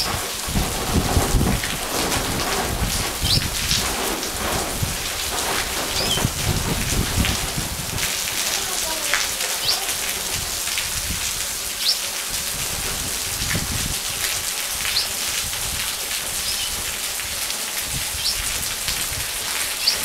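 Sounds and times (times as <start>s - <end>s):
heavy rain: 0.0s - 20.0s
rainwater pouring off roofs: 0.0s - 20.0s.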